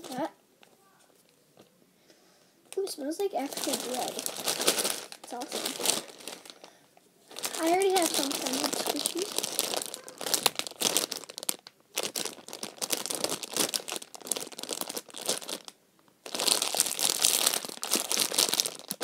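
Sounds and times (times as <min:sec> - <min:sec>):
plastic packaging crinkling: 0:00.0 - 0:00.3, 0:02.7 - 0:19.0.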